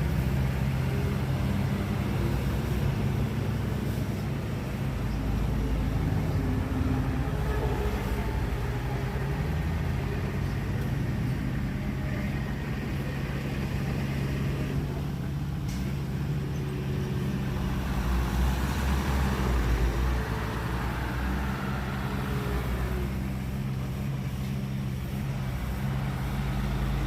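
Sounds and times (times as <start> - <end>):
heavy machine engine running: 0.0 - 27.0.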